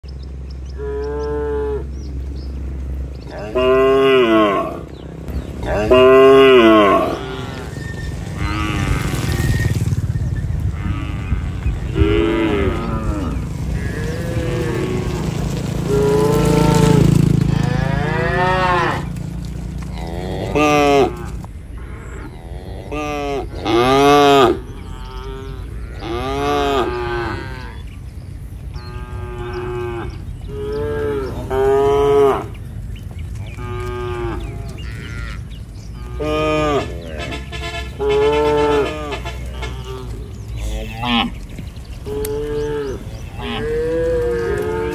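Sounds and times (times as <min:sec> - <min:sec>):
cattle mooing: 0:03.3 - 0:04.9, 0:05.6 - 0:09.7, 0:10.7 - 0:19.2, 0:19.8 - 0:28.0, 0:28.8 - 0:32.6, 0:33.4 - 0:44.9.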